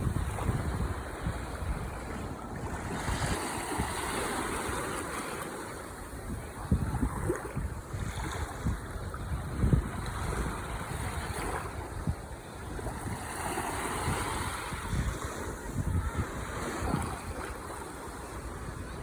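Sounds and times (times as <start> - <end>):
ocean waves on shore: 0.0 - 19.0
wind buffeting microphone: 0.0 - 19.0.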